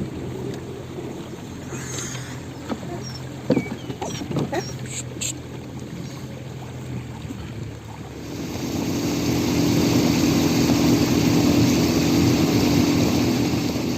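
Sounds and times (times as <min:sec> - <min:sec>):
engine running: 0:00.0 - 0:13.9.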